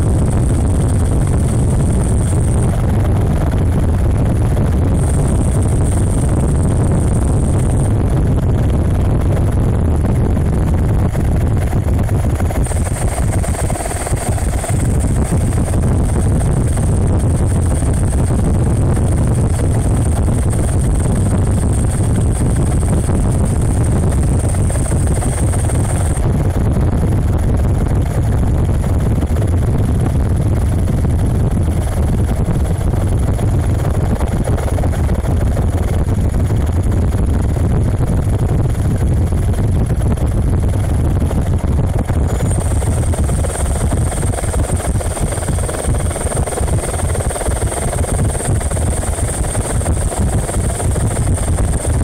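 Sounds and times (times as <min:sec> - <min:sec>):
helicopter engine and rotor rumble: 0:00.0 - 0:52.0
high whine: 0:00.0 - 0:52.0.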